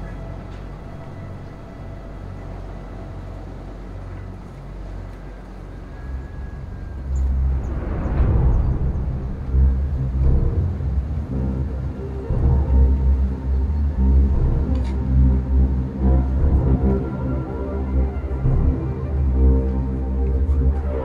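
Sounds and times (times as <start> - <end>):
ominous low drone: 0.0 - 21.0.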